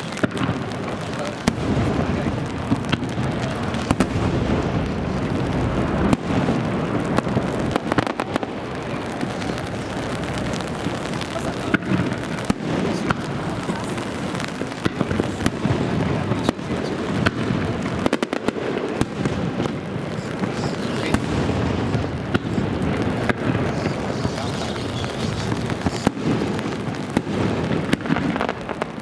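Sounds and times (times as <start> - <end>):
crackling fireworks reports: 0.0 - 29.0
fireworks bangs: 0.0 - 29.0
rain on an umbrella: 0.0 - 29.0.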